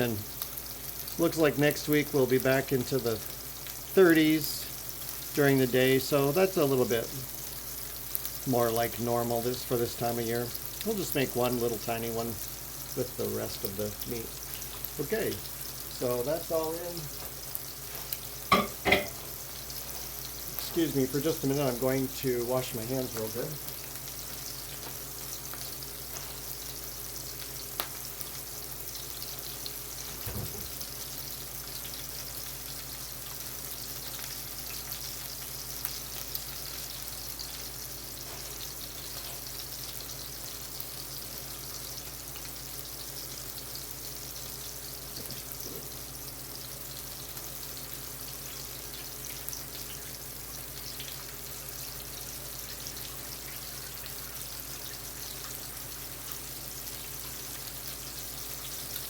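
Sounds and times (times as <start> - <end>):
meatballs sizzling in oil: 0.0 - 59.0.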